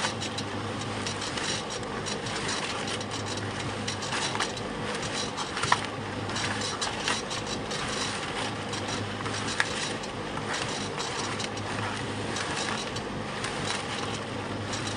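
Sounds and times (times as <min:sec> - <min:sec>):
concrete mixer motor hum: 0:00.0 - 0:14.9
knocks and clicks: 0:00.0 - 0:14.9
turning drum rattling and scraping: 0:00.0 - 0:14.9.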